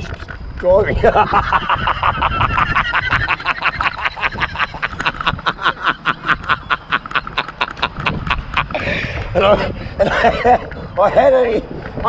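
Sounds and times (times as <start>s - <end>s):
man laughing hard: 0.9s - 11.2s.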